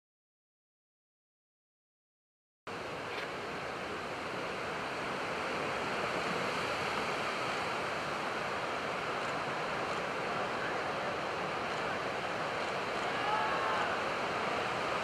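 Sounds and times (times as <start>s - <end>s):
heavy surf breaking: 2.8s - 15.0s.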